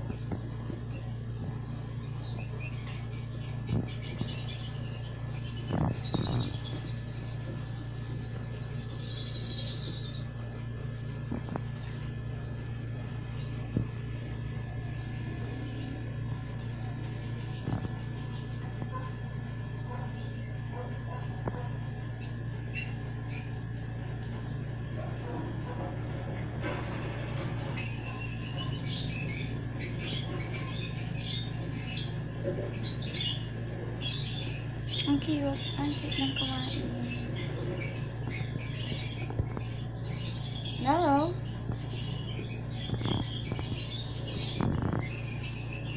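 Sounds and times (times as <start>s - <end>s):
birds begging chirps: 0.0s - 45.9s
steady low hum: 0.0s - 45.9s.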